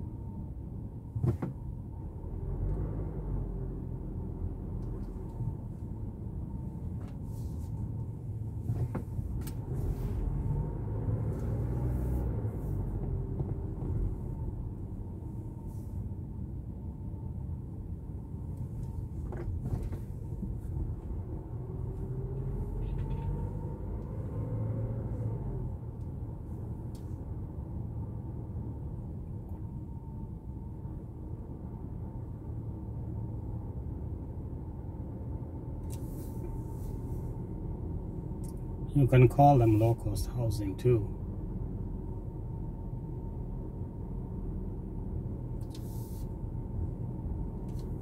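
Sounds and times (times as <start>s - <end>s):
faint car whine: 0.0s - 48.0s
road and engine rumble: 0.0s - 48.0s.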